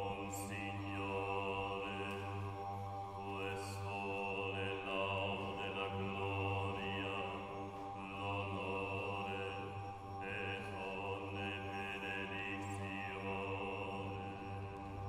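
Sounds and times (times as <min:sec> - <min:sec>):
slow chant-like music: 0:00.0 - 0:15.0.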